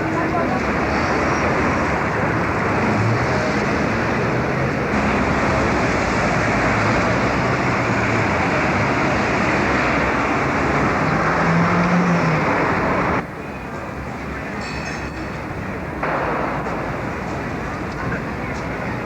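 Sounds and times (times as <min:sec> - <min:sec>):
passing vehicles: 0:00.0 - 0:19.0.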